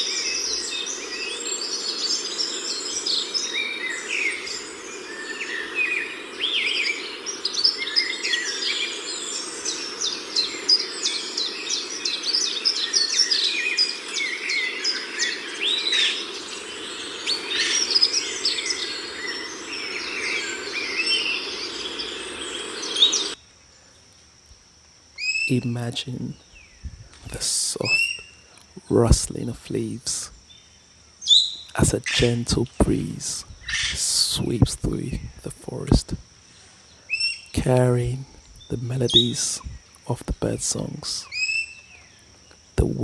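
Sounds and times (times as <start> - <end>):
low background noise: 0.0 - 43.0
songbirds chorus: 0.0 - 43.0.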